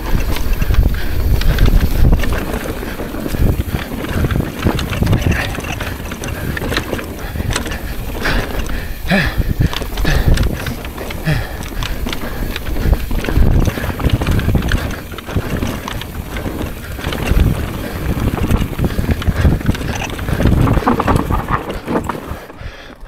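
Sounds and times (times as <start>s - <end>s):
mountain bike rattling: 0.0s - 23.0s
wind on microphone: 0.0s - 23.0s.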